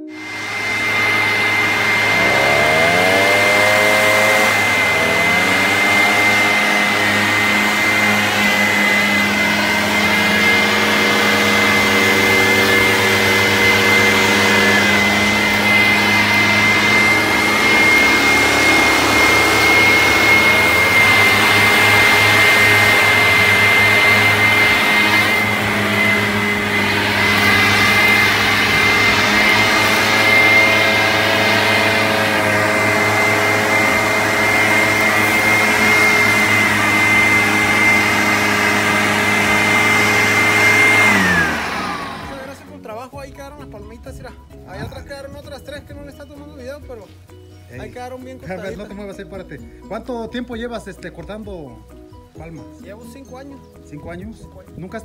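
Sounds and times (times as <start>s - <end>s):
leaf blower revving: 0.0s - 55.0s.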